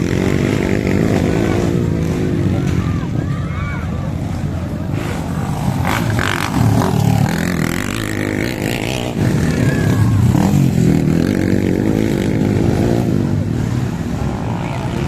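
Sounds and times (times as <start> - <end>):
motorcycle engine revving: 0.0 - 3.2, 4.1 - 15.0.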